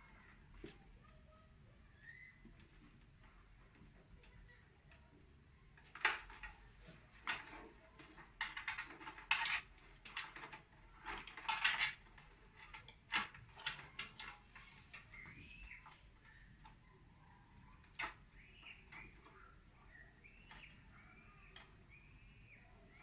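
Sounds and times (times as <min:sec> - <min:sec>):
cables and plastic connectors clicking: 0:02.0 - 0:23.0.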